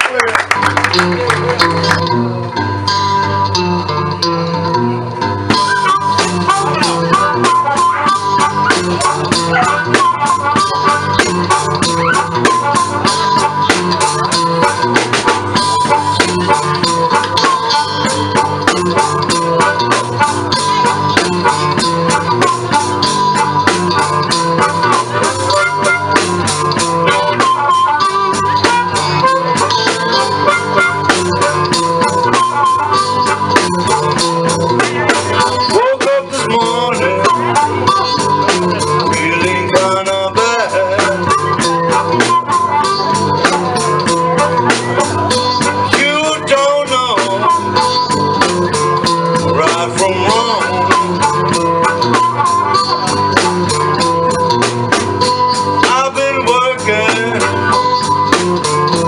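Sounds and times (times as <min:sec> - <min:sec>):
guitar: 0:00.0 - 0:59.0
busy drum beat: 0:00.1 - 0:04.1, 0:04.8 - 0:59.0
repeating bass riff: 0:00.7 - 0:59.0.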